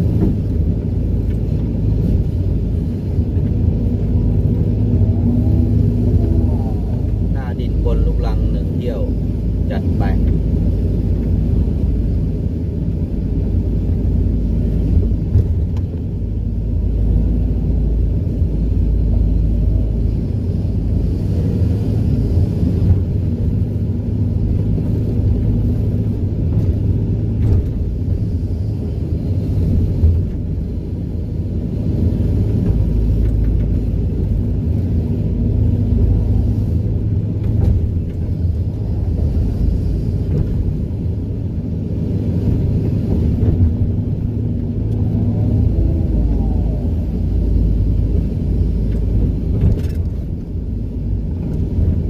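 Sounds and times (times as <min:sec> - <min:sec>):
diesel engine rumble: 0:00.0 - 0:52.0.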